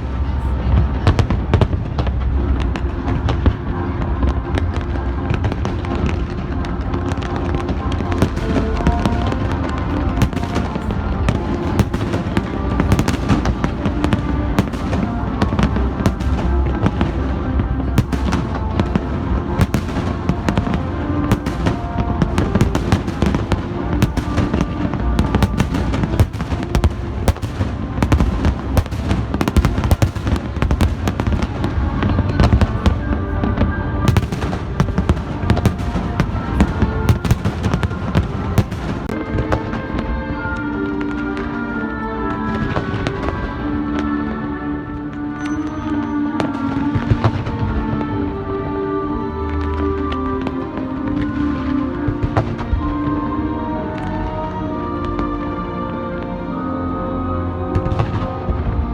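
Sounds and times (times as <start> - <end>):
fireworks bursting and crackling: 0.0 - 44.1, 45.0 - 53.2
music: 0.0 - 58.9.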